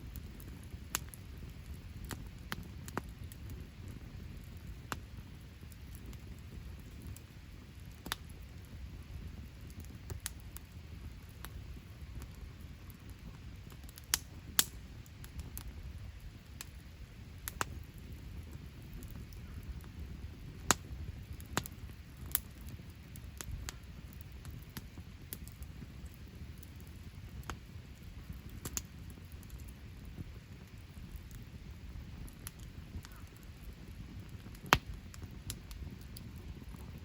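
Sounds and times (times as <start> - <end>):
campfire crackling and popping: 0.0 - 37.0
low steady rumble: 0.0 - 37.0.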